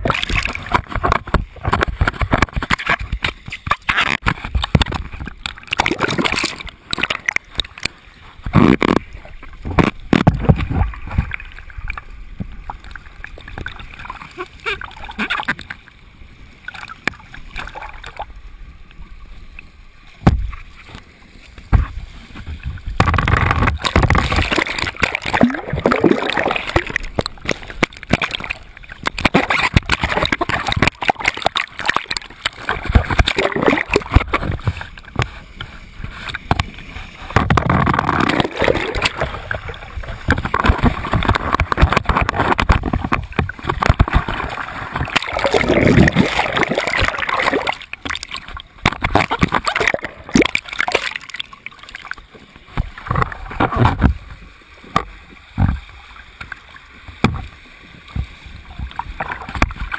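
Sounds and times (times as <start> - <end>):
whirlpool water splashing and gurgling: 0.0 - 59.9.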